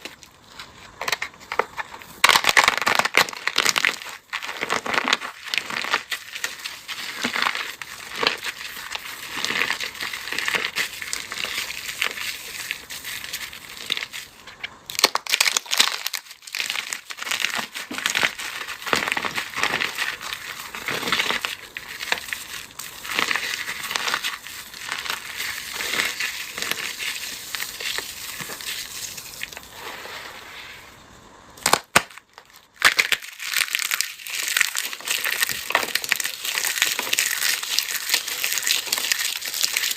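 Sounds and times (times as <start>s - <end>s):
brittle material crunching: 0.0s - 29.8s, 31.6s - 39.9s.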